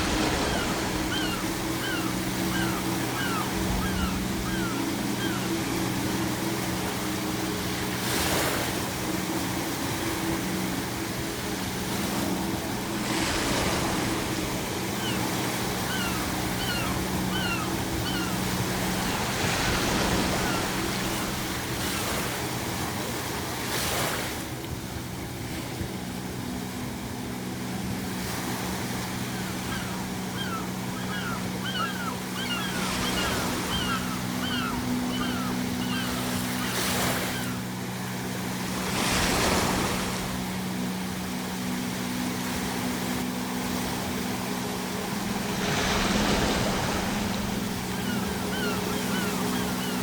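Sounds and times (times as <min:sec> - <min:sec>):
seagulls calling: 0:00.0 - 0:23.4, 0:27.7 - 0:40.9, 0:42.9 - 0:50.0
low sustained drone: 0:00.0 - 0:50.0
ocean waves crashing: 0:00.0 - 0:50.0.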